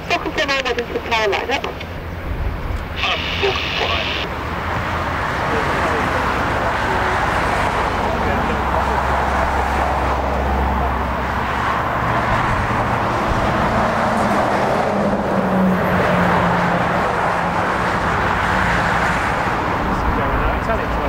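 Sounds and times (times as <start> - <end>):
road traffic noise: 0.0 - 21.0
turboprop engines droning: 0.0 - 21.0.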